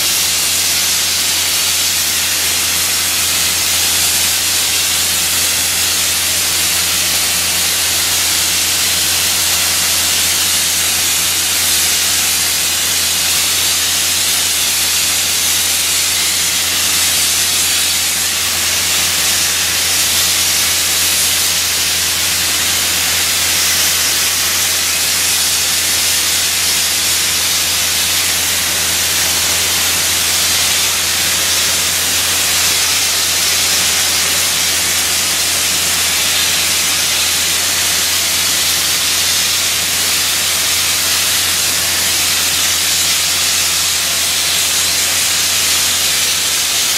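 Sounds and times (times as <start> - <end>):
blasting nozzle hissing loudly: 0.0 - 46.9.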